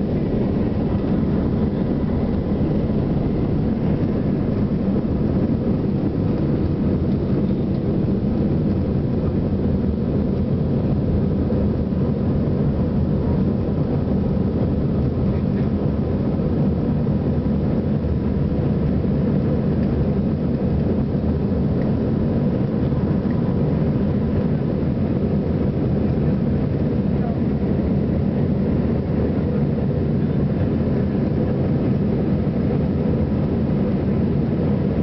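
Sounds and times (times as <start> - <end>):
jet engines rumbling in cabin: 0.0 - 35.0.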